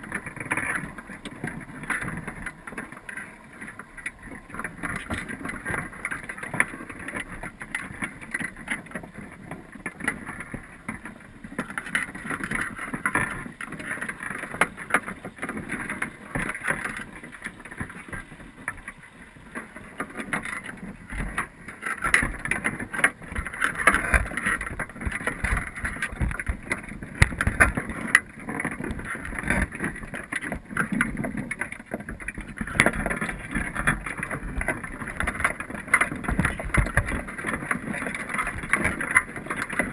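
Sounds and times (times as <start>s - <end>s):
crab shells clicking and scraping: 0.0s - 39.9s.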